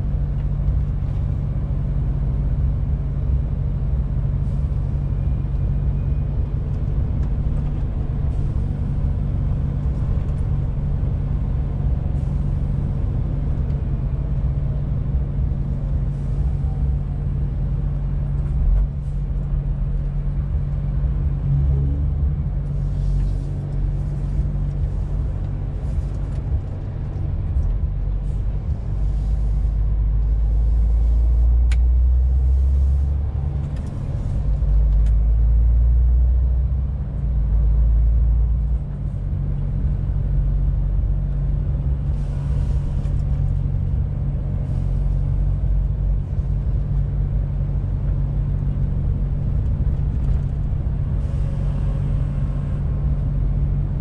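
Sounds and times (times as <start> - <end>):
diesel engine low drone: 0.0 - 54.0
tyre and road noise: 0.0 - 54.0.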